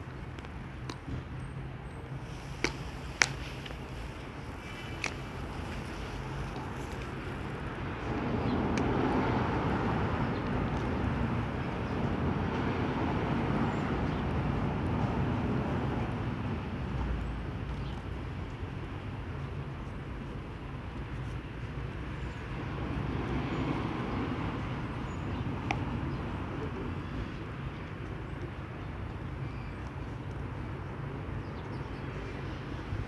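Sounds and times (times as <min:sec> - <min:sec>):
outdoor background rumble and hiss: 0:00.0 - 0:33.0.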